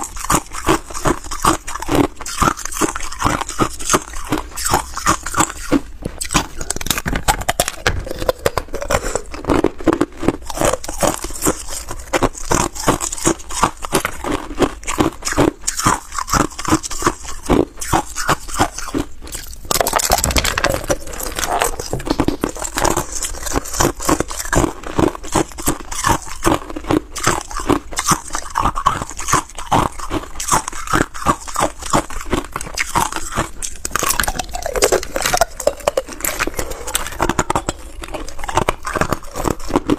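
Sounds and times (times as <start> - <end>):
ice cubes being chewed: 0.0 - 39.9.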